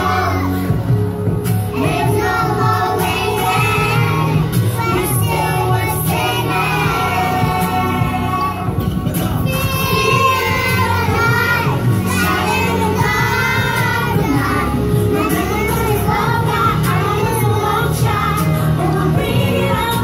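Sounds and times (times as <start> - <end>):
pop song with singing: 0.0 - 20.0
steady bass beat: 0.0 - 20.0.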